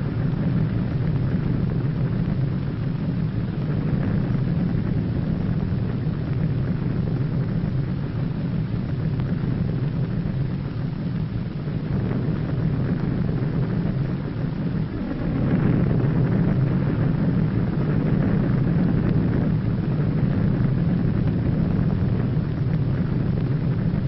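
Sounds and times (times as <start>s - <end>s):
low rumble and roar: 0.0s - 24.0s.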